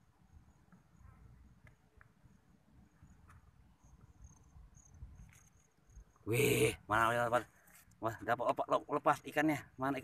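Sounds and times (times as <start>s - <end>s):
faint high-pitched insect chirping: 0.0s - 10.0s.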